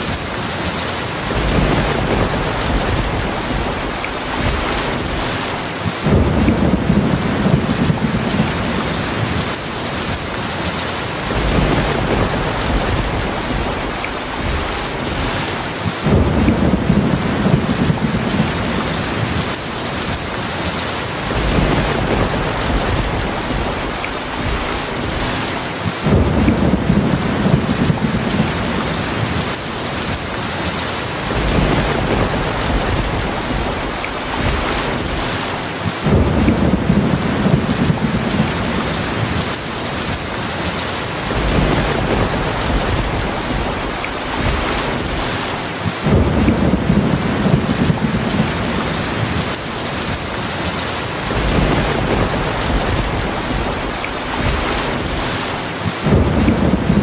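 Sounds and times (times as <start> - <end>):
heavy rain falling: 0.0 - 57.0
thunder rumbling: 1.0 - 57.0.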